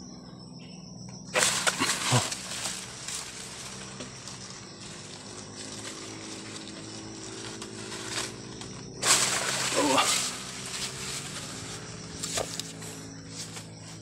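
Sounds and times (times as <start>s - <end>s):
pole rustling through leaves: 1.3s - 14.0s.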